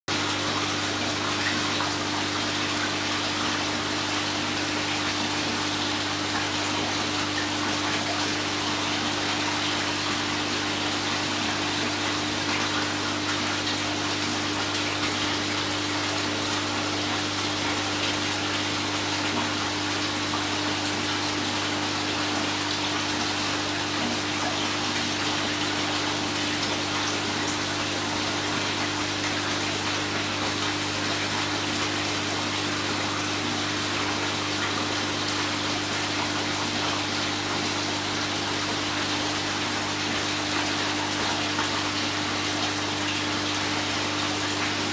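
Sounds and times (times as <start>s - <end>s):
low pump hum: 0.1s - 44.9s
running water rushing: 0.1s - 44.9s.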